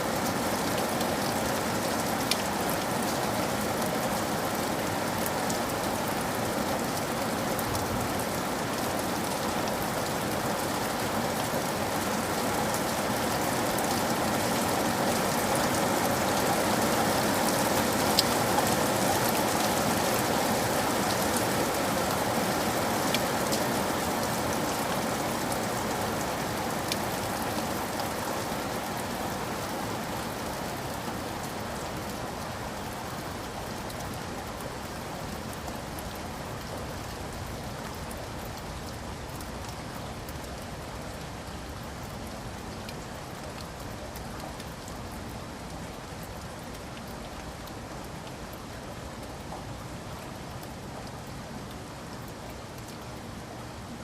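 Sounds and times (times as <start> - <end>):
rain falling on a roof: 0.0 - 54.0.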